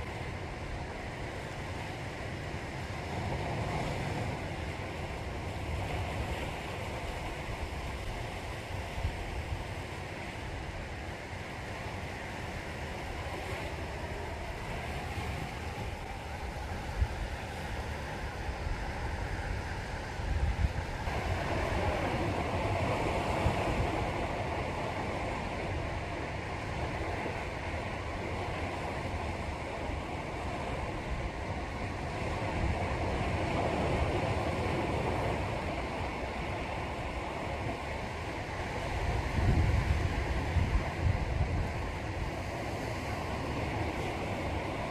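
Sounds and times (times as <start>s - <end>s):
sea waves washing onto shore: 0.0s - 44.9s
wind rumbling on microphone: 0.0s - 44.9s.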